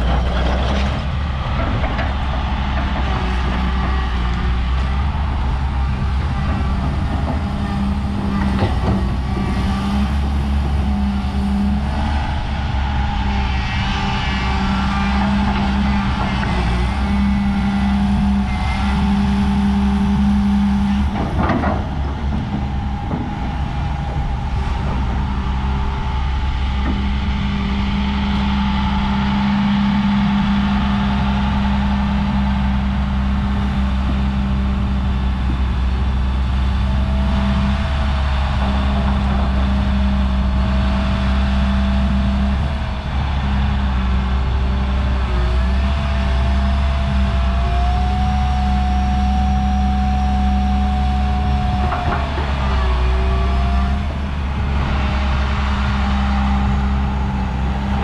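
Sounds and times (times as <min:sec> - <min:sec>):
diesel engine running: 0:00.0 - 0:58.0
hydraulic pump whine: 0:00.0 - 0:58.0.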